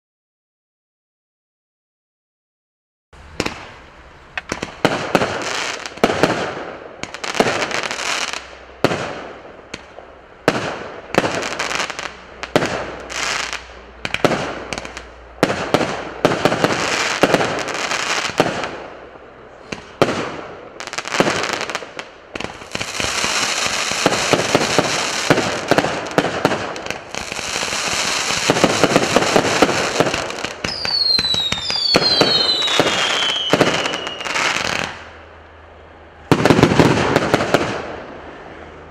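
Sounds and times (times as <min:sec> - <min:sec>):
firework aerial bursts: 0:03.2 - 0:35.3, 0:36.2 - 0:38.8.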